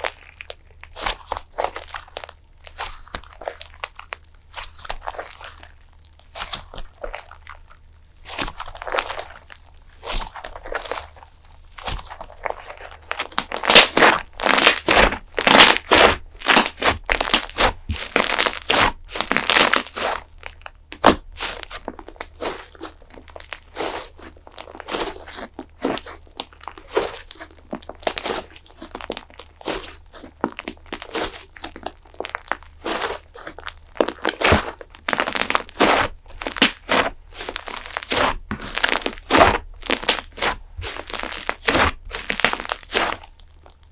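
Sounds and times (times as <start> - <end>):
slime crackling and popping: 0.0 - 43.9.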